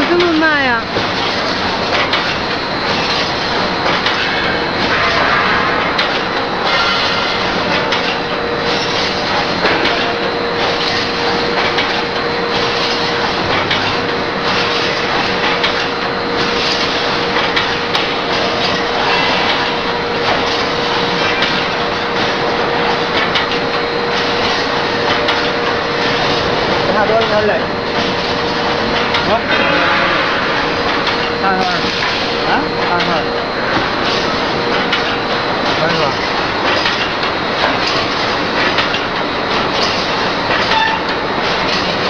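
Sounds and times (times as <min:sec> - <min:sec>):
machine hum: 0:00.0 - 0:42.0
welding machine clanking: 0:00.0 - 0:42.0.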